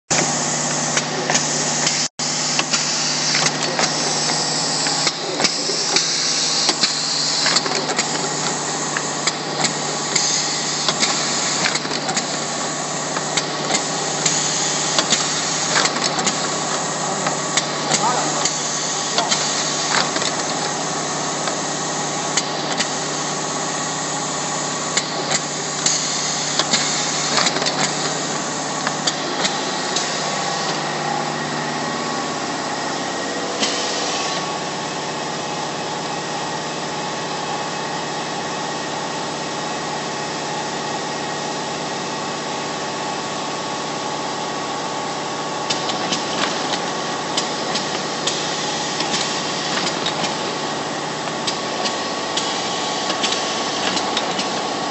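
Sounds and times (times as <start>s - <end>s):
machine whirring: 0.1s - 54.9s.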